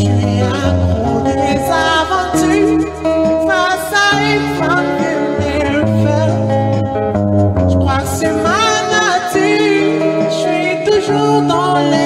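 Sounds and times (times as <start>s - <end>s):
man singing: 0.0s - 6.8s, 7.6s - 12.0s
guitar chords: 0.0s - 12.0s.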